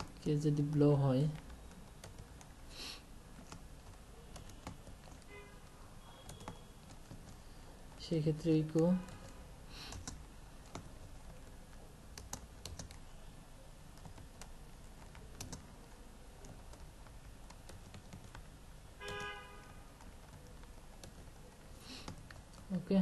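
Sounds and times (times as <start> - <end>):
keyboard typing: 0.0 - 2.6, 3.3 - 13.0, 13.9 - 22.8.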